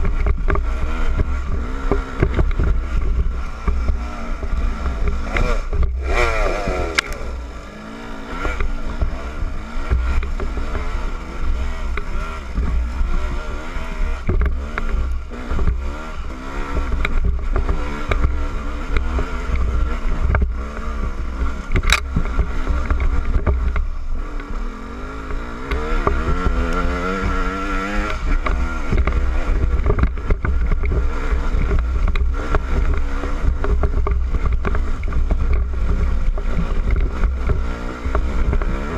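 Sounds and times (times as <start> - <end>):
dirt bike engine revving: 0.0 - 38.9
wind rumble on microphone: 0.0 - 38.9.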